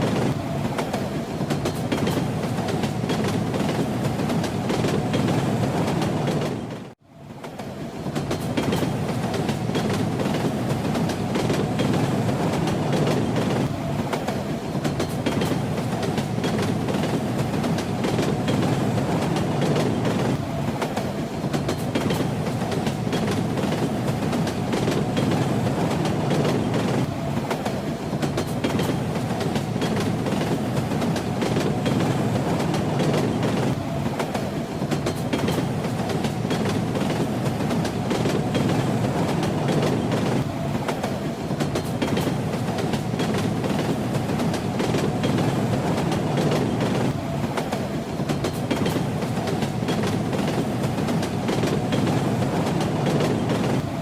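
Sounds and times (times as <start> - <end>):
train carriage rumble: 0.0 - 54.0
wheels clickety-clack over rail joints: 0.0 - 54.0.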